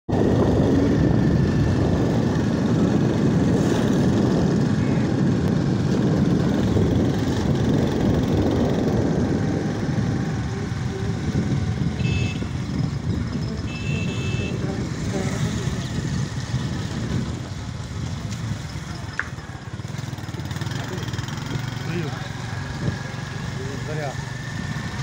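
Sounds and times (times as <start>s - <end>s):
small motorcycle engine running: 0.1s - 25.0s.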